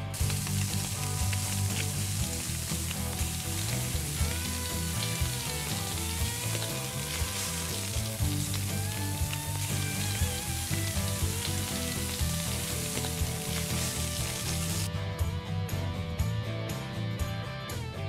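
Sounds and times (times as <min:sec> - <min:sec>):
chicken wings sizzling on grill: 0:00.0 - 0:14.9
background music with bass: 0:00.0 - 0:18.0.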